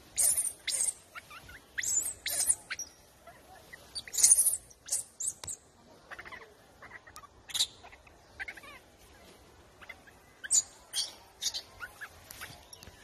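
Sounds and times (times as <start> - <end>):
animal squeaks and chirps: 0.1 - 8.8, 9.8 - 12.7.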